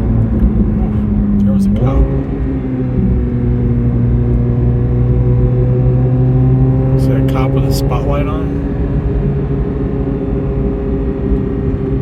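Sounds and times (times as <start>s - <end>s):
car engine running steadily: 0.0s - 12.0s
tyre and road rumble: 0.0s - 12.0s.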